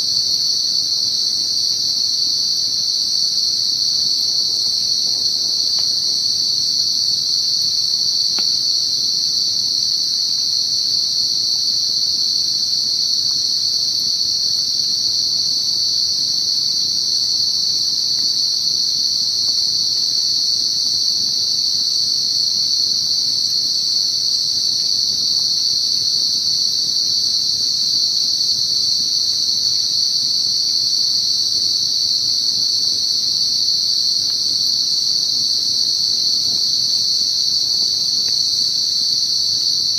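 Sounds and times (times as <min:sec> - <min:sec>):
night insects droning: 0:00.0 - 0:39.9.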